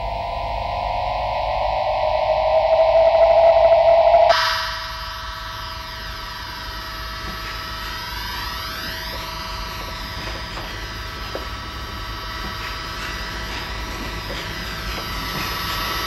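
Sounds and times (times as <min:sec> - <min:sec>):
steady electronic hum: 0:00.0 - 0:16.0.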